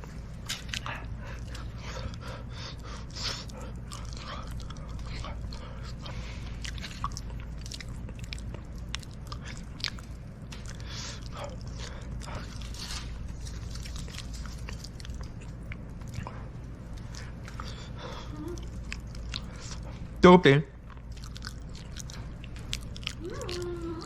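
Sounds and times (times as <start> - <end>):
person chewing: 0.0 - 20.2, 20.8 - 24.0
steady low hum: 0.0 - 24.0.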